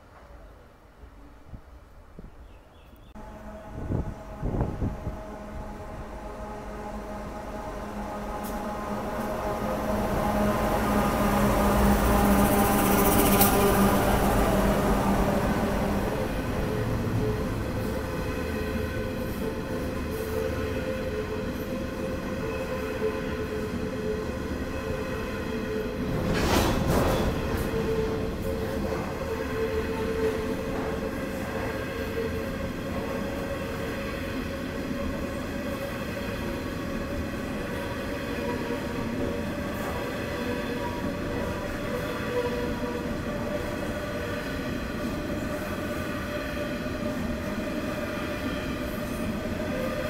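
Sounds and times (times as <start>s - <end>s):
train wheels rumbling on rails: 3.1s - 50.0s.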